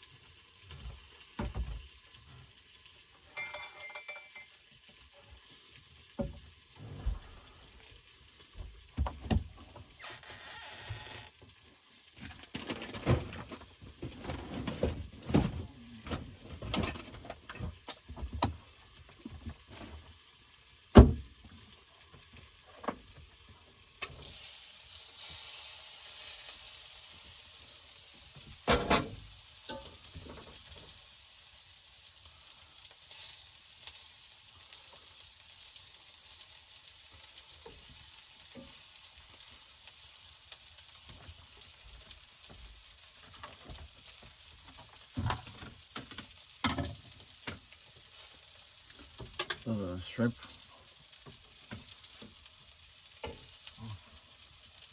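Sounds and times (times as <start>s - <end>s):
food sizzling in a frying pan: 0.0s - 54.9s.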